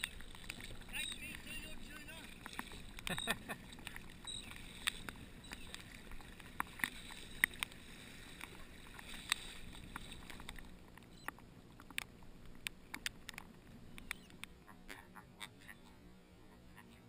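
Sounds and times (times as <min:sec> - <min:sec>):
water dripping from paddle: 0:00.0 - 0:14.5
water slapping kayak hull: 0:00.0 - 0:15.8
wind: 0:00.0 - 0:17.0.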